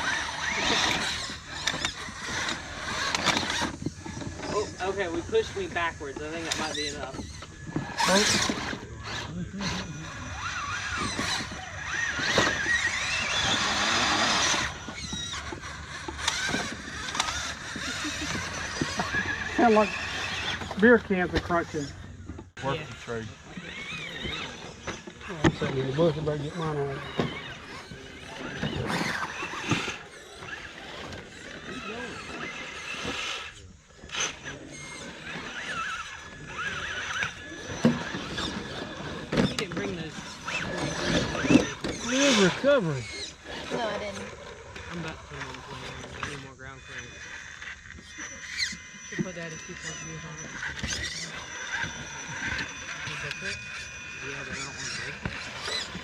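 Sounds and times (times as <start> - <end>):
rc truck motor whine: 0.0 - 56.0.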